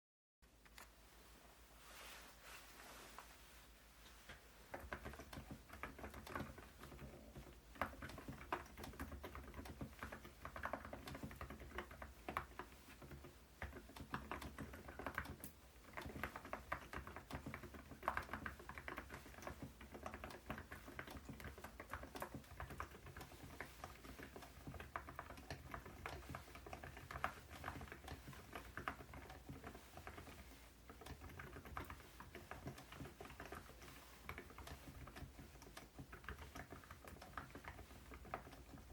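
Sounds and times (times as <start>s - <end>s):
quiet keyboard typing: 4.1s - 38.9s.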